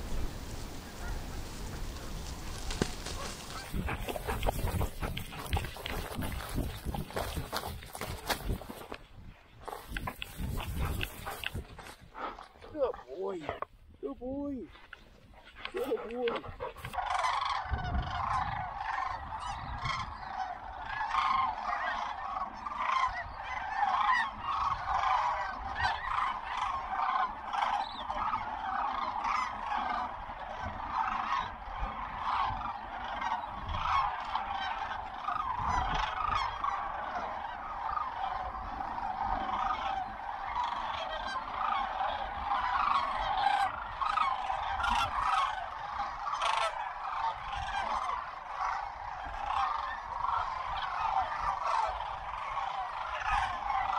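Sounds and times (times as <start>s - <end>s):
cranes calling in chorus: 0.0s - 53.9s.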